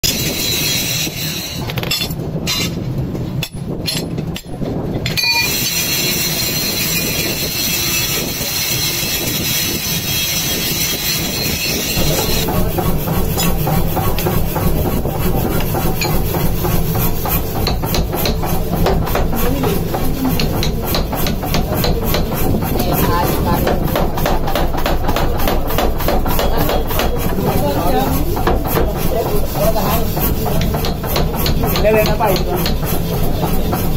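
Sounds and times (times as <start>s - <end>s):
hammer and chisel on anvil: 0.0s - 33.9s
power hammer pounding steel: 0.0s - 33.9s.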